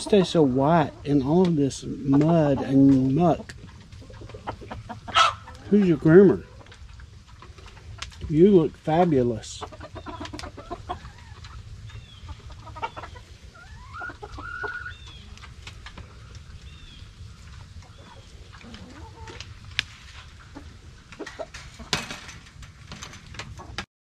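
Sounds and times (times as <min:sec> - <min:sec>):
hens clucking and calling: 0:00.0 - 0:22.4, 0:23.0 - 0:23.8.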